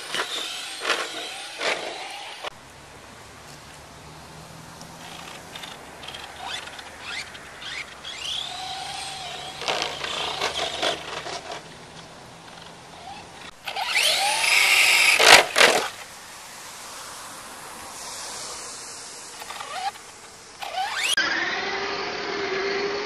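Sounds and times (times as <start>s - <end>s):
electric motor whining: 0.0s - 2.5s, 4.7s - 16.0s, 18.2s - 23.0s.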